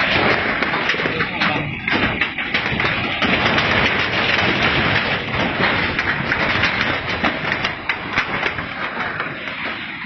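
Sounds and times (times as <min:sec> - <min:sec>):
loud rumbling clatter: 0:00.0 - 0:10.0
sharp clicks and knocks: 0:00.0 - 0:10.0.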